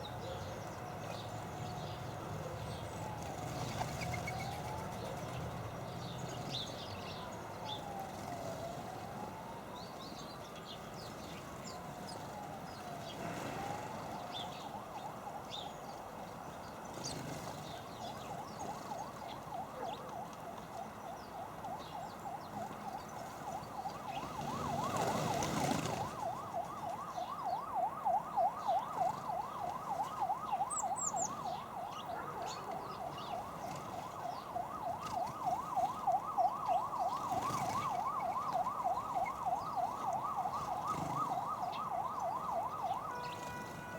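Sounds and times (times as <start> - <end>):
small birds chirping: 0.0 - 8.8, 9.6 - 43.6
emergency vehicle siren: 0.0 - 43.9.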